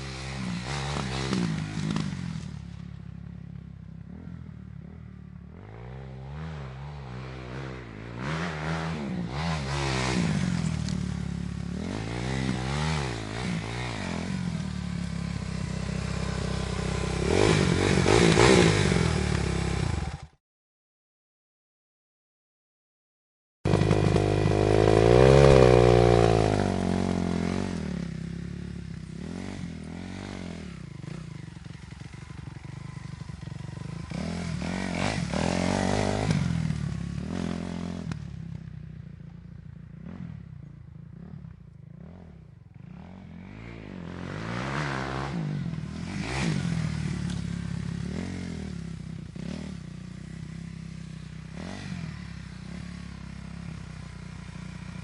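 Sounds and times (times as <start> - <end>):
dirt bike engines revving: 0.0 - 2.8, 4.0 - 20.3, 23.7 - 38.2, 39.9 - 55.0.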